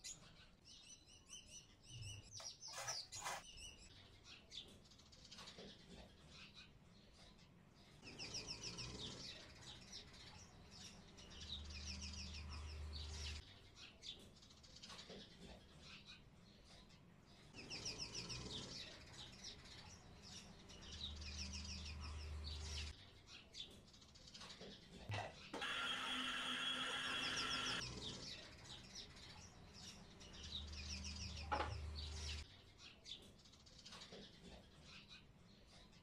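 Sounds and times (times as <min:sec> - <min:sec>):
faint bird chirps and trills: 0:00.0 - 0:36.0.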